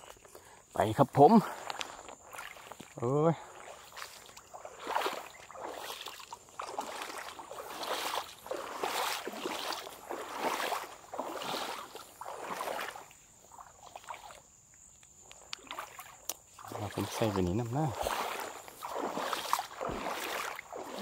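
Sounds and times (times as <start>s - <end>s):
footsteps wading through water: 0.0s - 21.0s.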